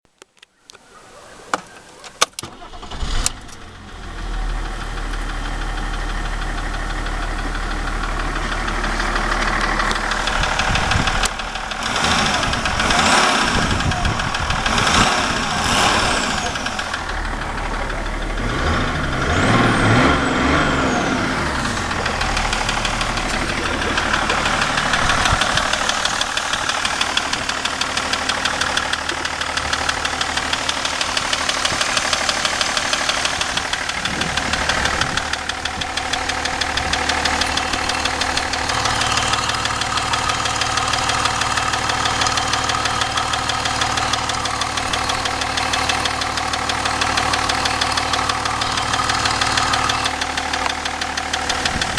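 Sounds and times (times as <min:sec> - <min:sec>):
diesel engine knocking: 0:02.7 - 0:51.9.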